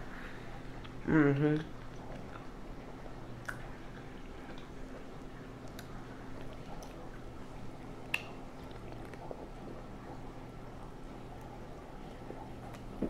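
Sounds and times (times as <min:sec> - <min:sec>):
mouth chewing: 0:01.6 - 0:07.2, 0:08.0 - 0:13.0.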